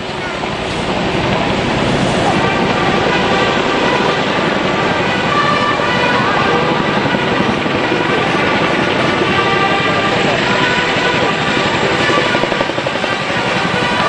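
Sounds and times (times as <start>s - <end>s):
faint bugle notes: 0.0s - 14.0s
helicopter roar: 0.0s - 14.0s.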